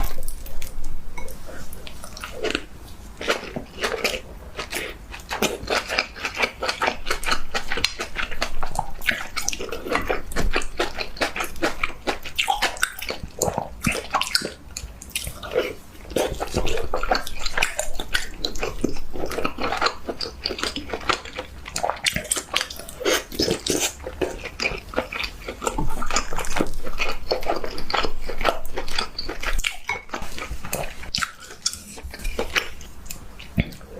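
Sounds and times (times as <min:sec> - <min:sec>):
close chewing and biting: 0:00.0 - 0:33.9.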